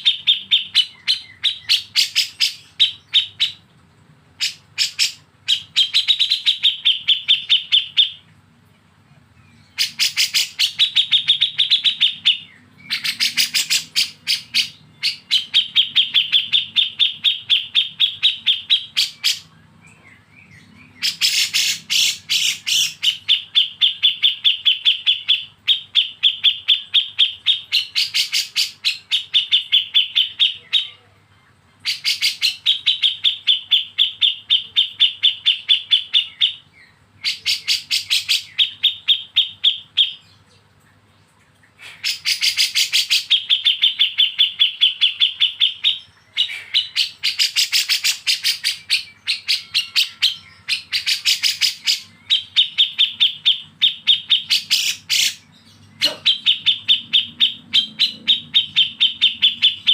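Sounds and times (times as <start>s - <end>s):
songbird rapid chirps: 0.0s - 59.9s.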